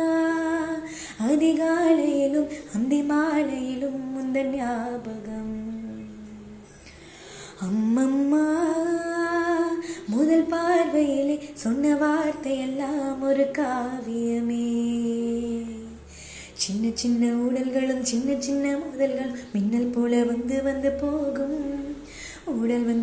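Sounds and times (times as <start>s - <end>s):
woman singing wordless melody: 0.0s - 23.0s.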